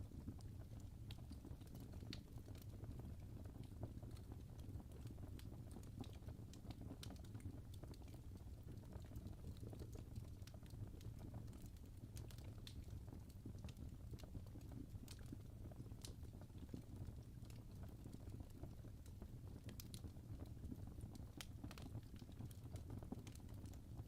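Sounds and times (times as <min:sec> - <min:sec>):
faint fire crackling: 0:00.0 - 0:24.0.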